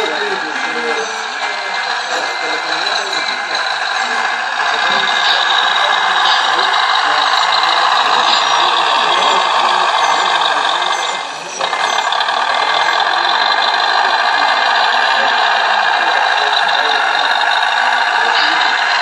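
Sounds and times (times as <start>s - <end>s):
model truck mechanical rattle: 0.0s - 19.0s.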